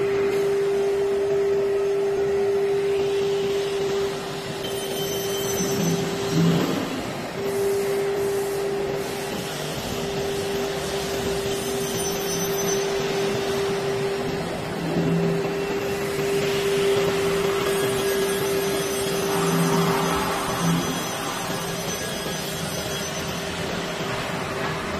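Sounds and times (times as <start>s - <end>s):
cnc machine whirring hum: 0.0s - 24.9s.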